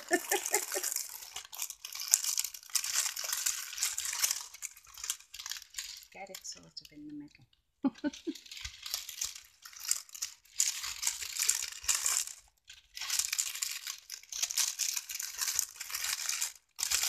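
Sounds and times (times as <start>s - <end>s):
cellophane crinkling: 0.0s - 17.0s.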